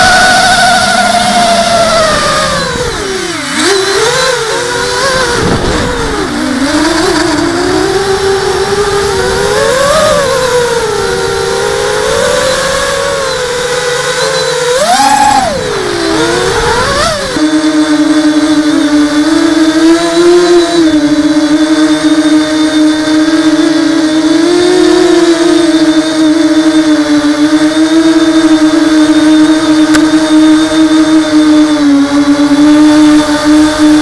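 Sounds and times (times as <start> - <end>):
drone motors and propellers whining: 0.0 - 34.0.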